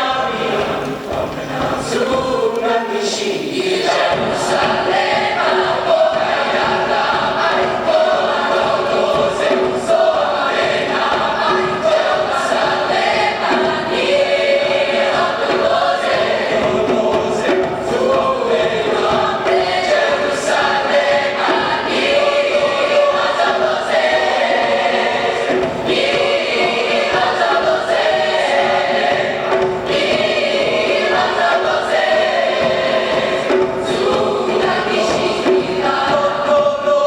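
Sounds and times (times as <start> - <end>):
choir singing: 0.0 - 37.0.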